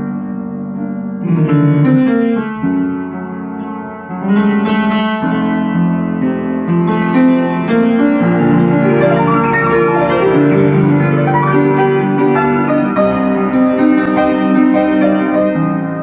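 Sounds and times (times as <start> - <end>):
piano melody: 0.0 - 16.0.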